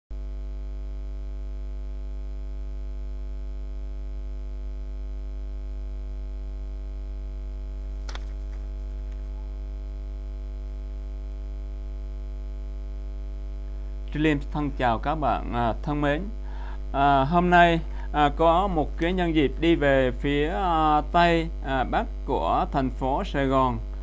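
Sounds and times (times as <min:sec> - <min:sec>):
electrical mains hum: 0:00.1 - 0:24.0.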